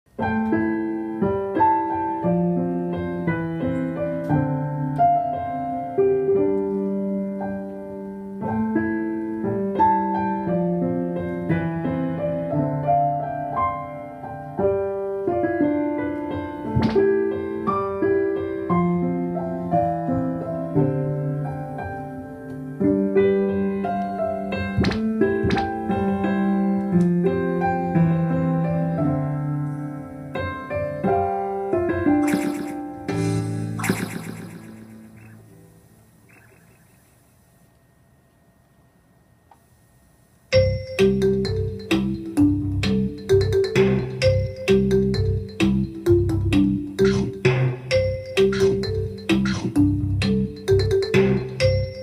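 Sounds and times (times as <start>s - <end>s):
slow piano music: 0.1s - 37.5s, 40.5s - 52.0s.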